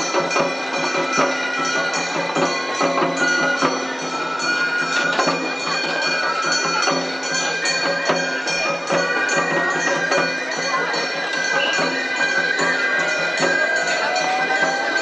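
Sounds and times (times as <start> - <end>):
high held flute melody: 0.0 - 15.0
sharp percussion strikes: 0.0 - 15.0.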